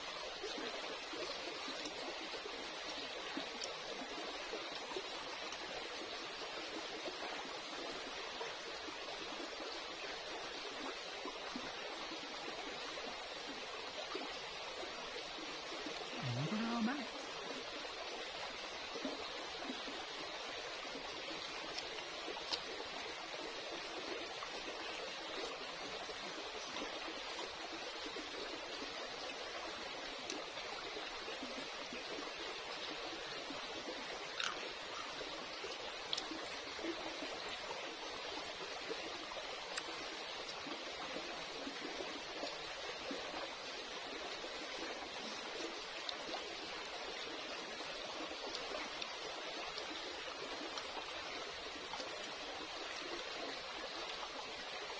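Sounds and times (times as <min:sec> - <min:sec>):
stream trickling over rocks: 0:00.0 - 0:54.9.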